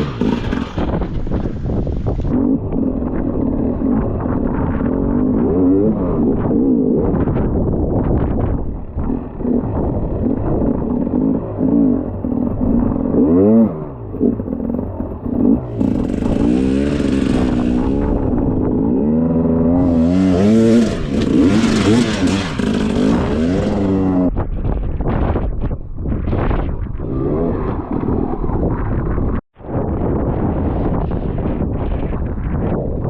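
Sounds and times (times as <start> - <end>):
motorcycle engine revving: 0.0 - 24.4, 27.0 - 29.4.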